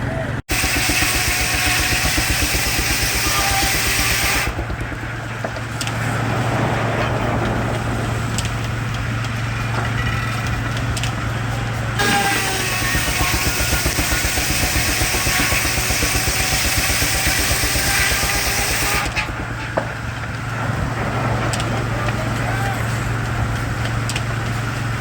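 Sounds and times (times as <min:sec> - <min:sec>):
steam sawmill running: 0:00.0 - 0:25.0.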